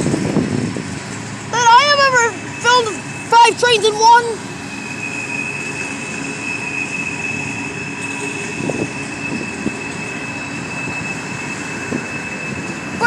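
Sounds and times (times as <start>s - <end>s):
train cars rumbling: 0.0s - 13.0s
high-pitched wheel squeal: 1.6s - 13.0s.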